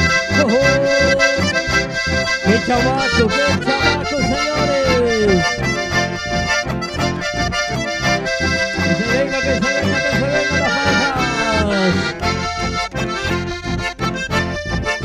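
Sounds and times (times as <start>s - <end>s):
accordion melody: 0.0s - 15.0s
bass: 0.0s - 15.0s
strummed guitars: 0.0s - 15.0s.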